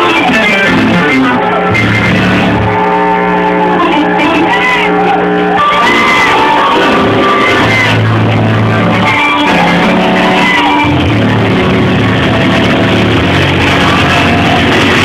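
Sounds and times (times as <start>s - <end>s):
electric guitar: 0.0s - 15.0s
held bass notes: 0.0s - 15.0s.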